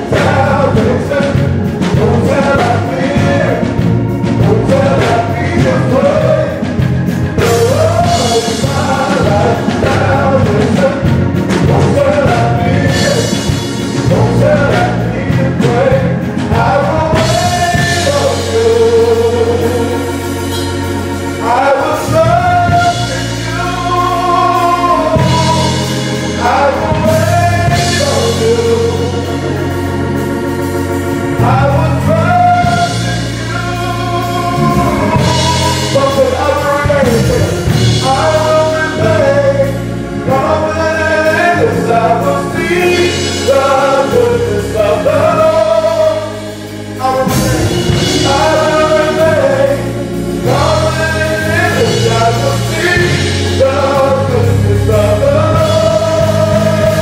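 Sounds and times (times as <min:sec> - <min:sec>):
held instrumental chords: 0:00.0 - 0:57.0
low bass line: 0:00.0 - 0:57.0
voices singing slow melody: 0:00.0 - 0:57.0.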